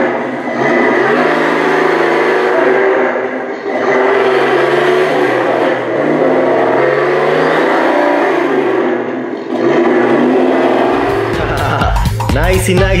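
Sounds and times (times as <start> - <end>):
toy car engine revving: 0.0 - 11.8.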